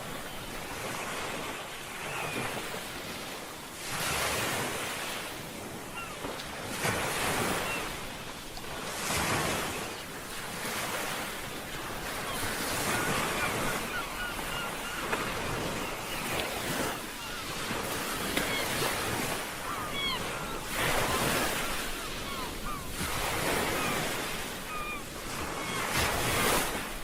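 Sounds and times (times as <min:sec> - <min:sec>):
ocean waves surging: 0:00.0 - 0:27.0
wind: 0:00.0 - 0:27.0.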